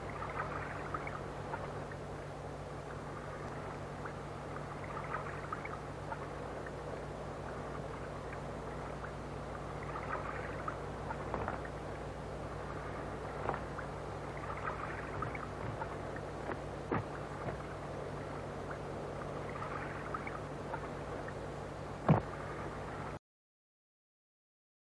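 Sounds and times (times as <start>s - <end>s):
low hum with hiss: 0.0s - 23.2s.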